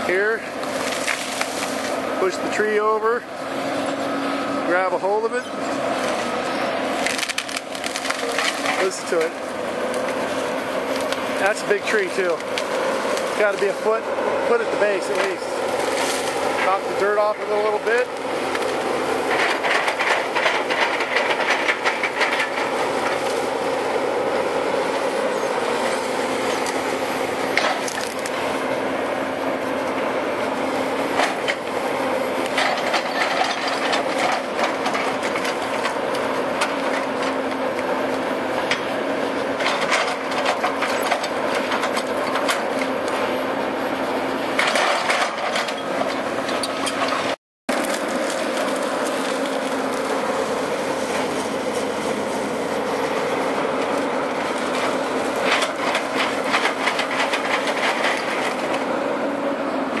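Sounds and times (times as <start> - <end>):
heavy machine engine running: 0.0 - 60.0
wood and roots cracking: 0.1 - 2.8, 4.7 - 43.3, 44.6 - 59.0.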